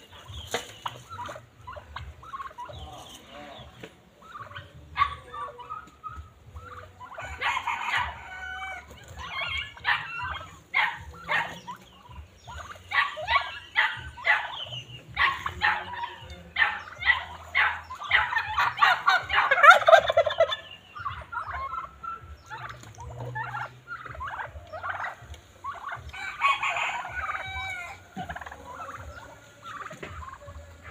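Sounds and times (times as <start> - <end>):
turkeys gobbling: 0.0 - 30.9.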